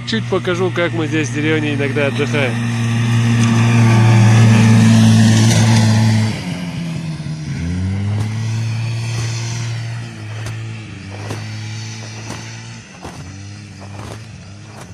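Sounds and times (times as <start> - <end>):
snowmobile engine revving: 0.0 - 14.9.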